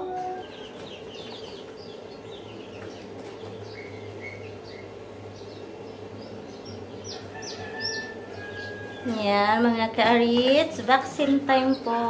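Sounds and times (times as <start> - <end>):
chicks peeping: 0.0 - 12.0
steady low hum: 0.0 - 12.0.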